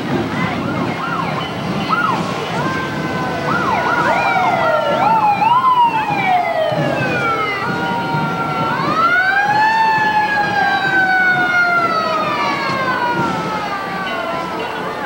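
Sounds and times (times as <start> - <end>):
sirens whooping and wailing: 0.0 - 15.0
slow falling siren wail: 0.6 - 15.0
steady held siren tones: 1.0 - 15.0.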